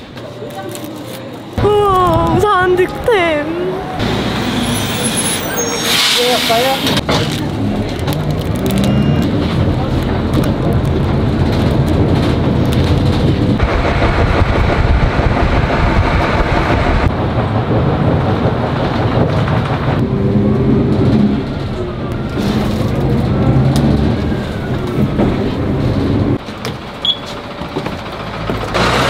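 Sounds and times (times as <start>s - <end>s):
bus engine hum: 0.0s - 29.0s
road rumble: 0.0s - 29.0s.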